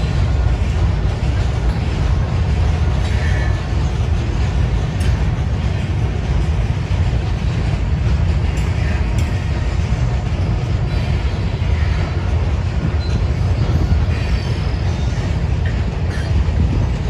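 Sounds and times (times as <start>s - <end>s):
train rumbling over bridge: 0.0s - 17.0s.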